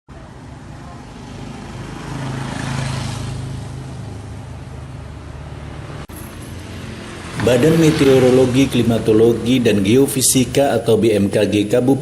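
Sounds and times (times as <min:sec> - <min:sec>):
background traffic: 0:00.1 - 0:12.0
vehicle passing: 0:00.1 - 0:12.0.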